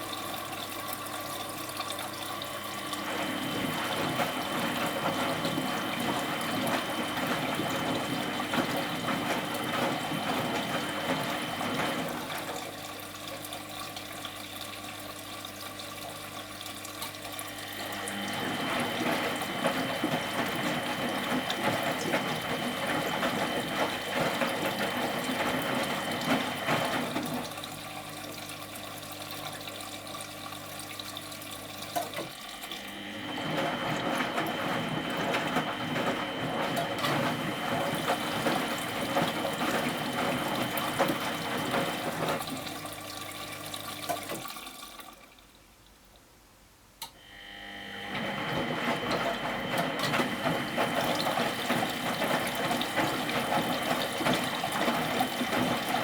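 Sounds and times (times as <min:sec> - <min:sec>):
washing machine water churning: 0:00.0 - 0:45.8, 0:47.2 - 0:56.0.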